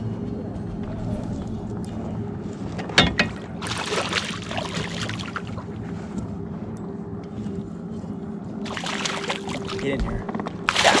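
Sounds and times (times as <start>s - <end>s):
steady low hum: 0.0s - 11.0s
water splashing and sloshing: 0.7s - 6.7s, 7.4s - 11.0s.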